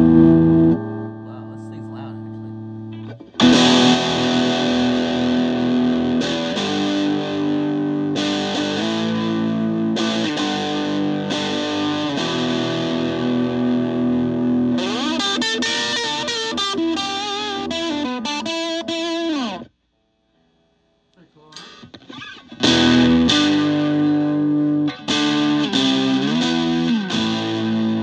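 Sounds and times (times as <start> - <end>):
electric guitar chords ringing: 0.0 - 19.7, 21.6 - 28.0
electric guitar lead with string bends: 0.0 - 19.7, 21.6 - 28.0.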